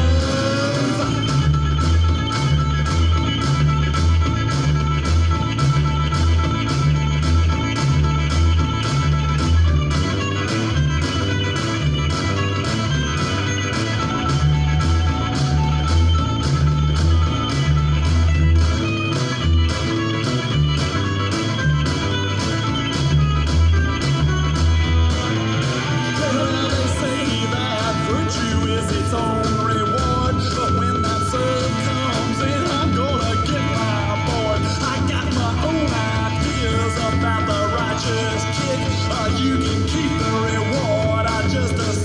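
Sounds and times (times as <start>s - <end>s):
electric guitar: 0.0s - 42.0s
pulsing electric bass line: 0.0s - 42.0s.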